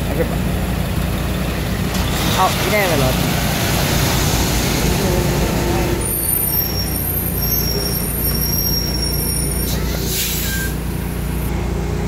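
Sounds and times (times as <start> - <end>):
semi truck diesel engine running: 0.0 - 12.0.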